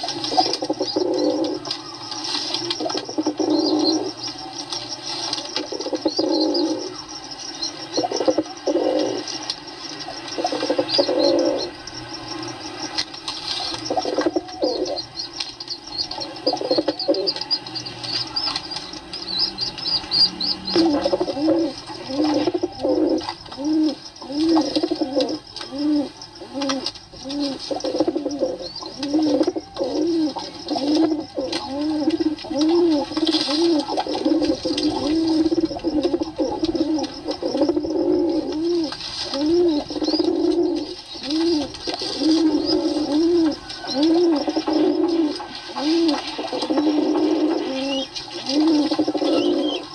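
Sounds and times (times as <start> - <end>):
pigeons cooing: 0.0 - 49.9.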